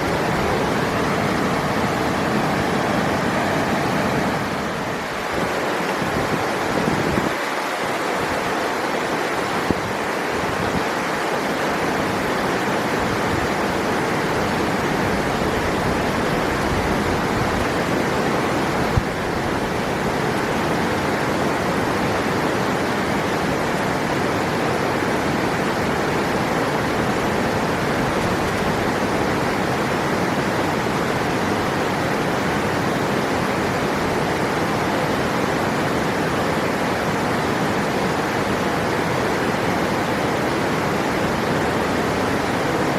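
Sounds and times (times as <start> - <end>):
river water rushing over rocks: 0.0 - 42.9.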